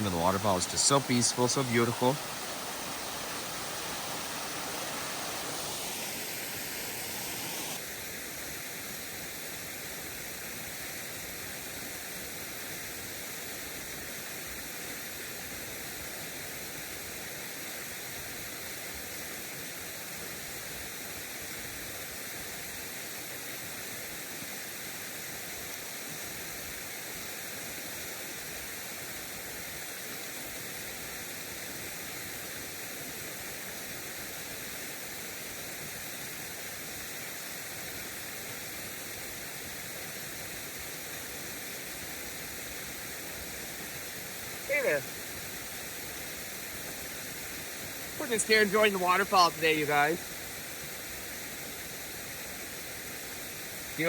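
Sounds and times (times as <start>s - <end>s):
small waterfall rushing: 0.0s - 54.0s.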